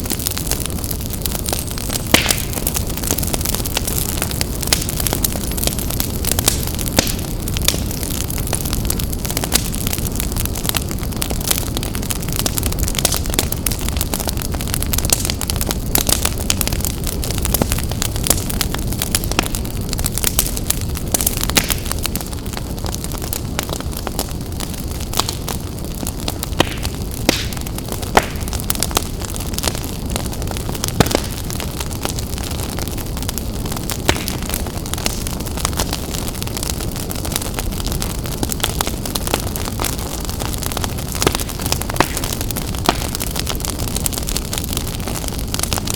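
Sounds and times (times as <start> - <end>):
fire crackles and pops: 0.0 - 45.9
fire flames roaring: 0.0 - 45.9.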